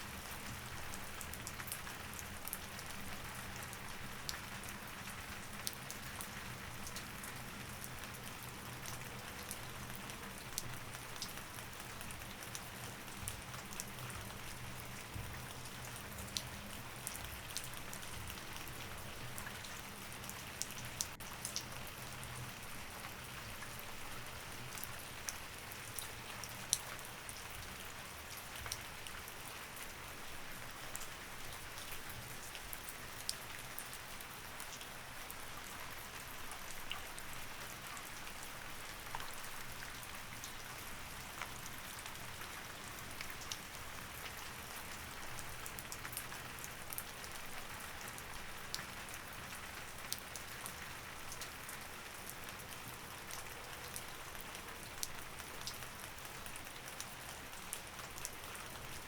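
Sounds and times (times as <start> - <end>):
rain drops ticking on a surface: 0.0 - 59.0.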